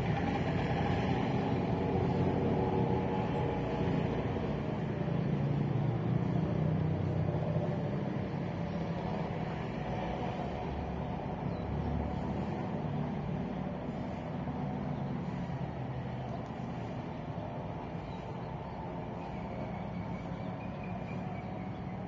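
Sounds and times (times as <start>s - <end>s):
vehicle engines running: 0.0s - 22.0s.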